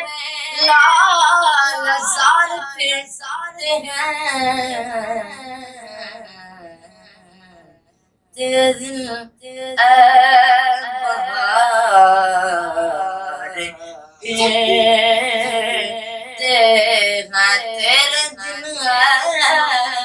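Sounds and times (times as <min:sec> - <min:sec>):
boy singing: 0:00.0 - 0:06.6, 0:08.4 - 0:20.0.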